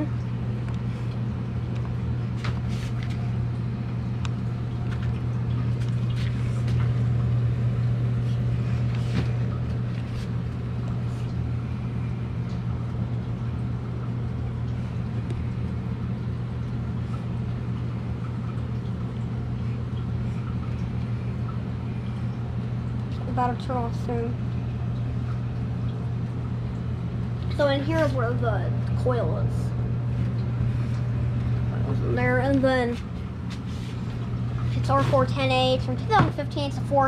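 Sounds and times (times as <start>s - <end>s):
furnace draft motor humming: 0.0s - 37.0s.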